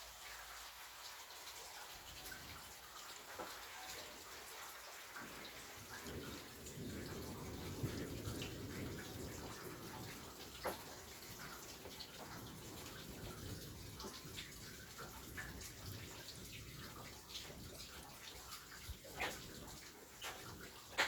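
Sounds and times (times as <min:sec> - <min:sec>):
rain pattering: 0:00.0 - 0:21.0
louder raindrop hits: 0:02.2 - 0:21.0.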